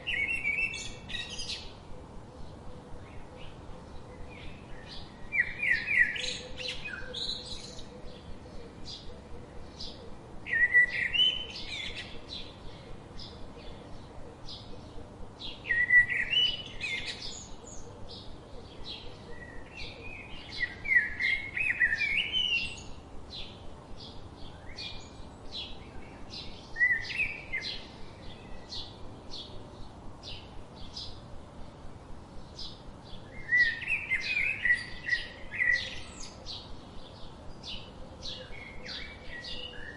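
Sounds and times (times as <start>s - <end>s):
bird warbling song: 0.0s - 31.3s, 32.4s - 39.9s.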